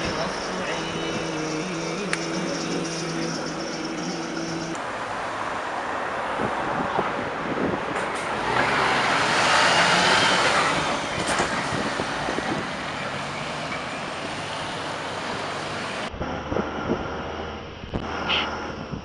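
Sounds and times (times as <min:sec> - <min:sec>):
road traffic: 0:00.0 - 0:19.0
large vehicle passing close: 0:02.5 - 0:19.0.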